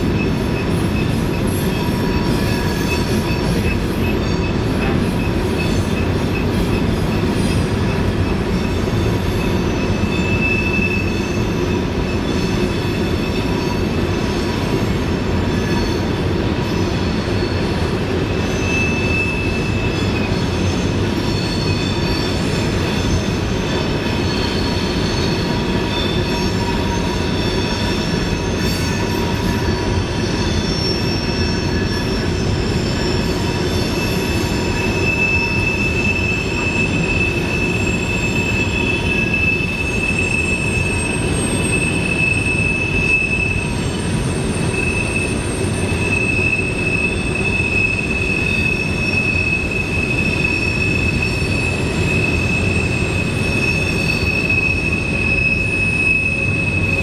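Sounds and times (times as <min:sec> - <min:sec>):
freight train cars rumbling: 0:00.0 - 0:57.0
wheel flange squeal: 0:00.0 - 0:57.0.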